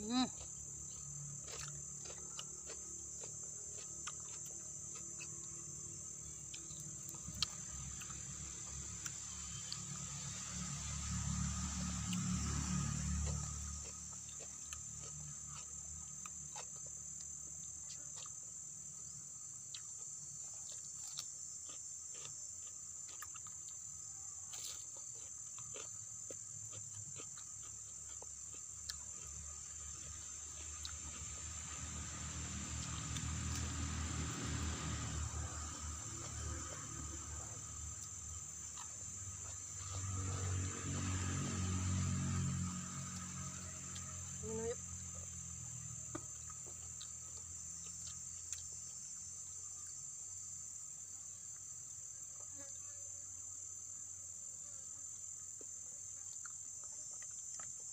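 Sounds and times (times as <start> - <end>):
insects chirring: 0.0 - 57.9.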